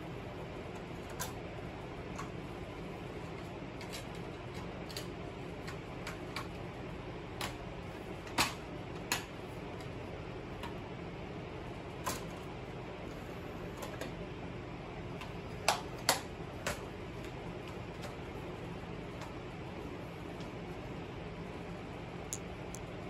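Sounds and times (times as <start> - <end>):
steady low hum: 0.0 - 15.6, 16.3 - 23.0.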